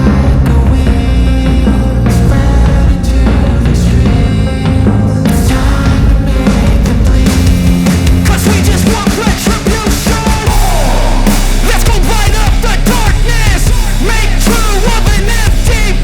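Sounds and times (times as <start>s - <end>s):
rap rock music: 0.0s - 16.0s.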